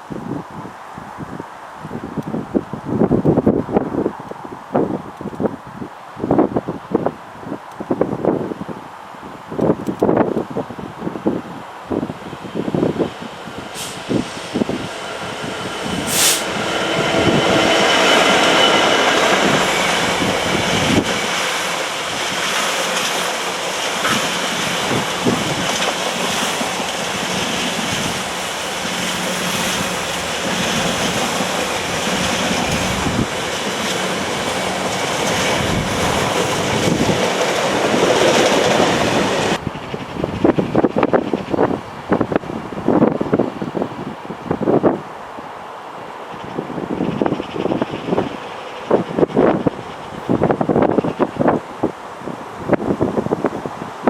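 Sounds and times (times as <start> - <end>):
train wheels rumbling on rails: 9.6 - 45.0, 45.9 - 54.0.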